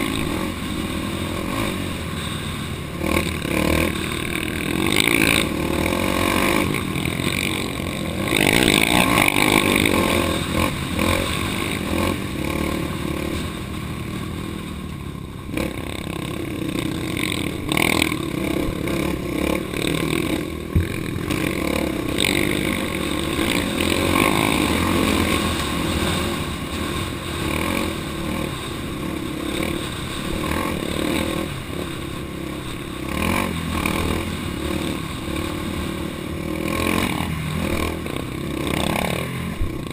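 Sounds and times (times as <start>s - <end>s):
clatter and scraping on rough ground: 0.0s - 39.9s
off-road vehicle engine revving: 0.0s - 39.9s.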